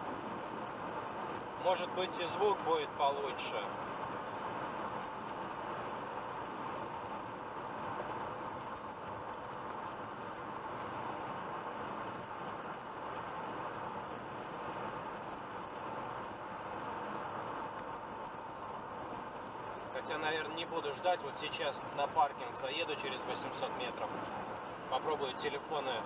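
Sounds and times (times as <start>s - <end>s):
car engine hum: 0.0s - 26.0s.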